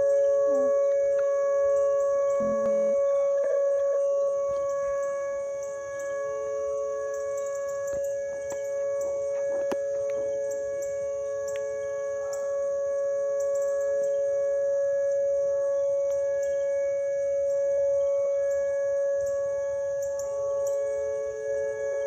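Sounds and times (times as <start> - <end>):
lower siren tone: 0.0 - 22.0
warning sirens steady tone: 0.0 - 22.0.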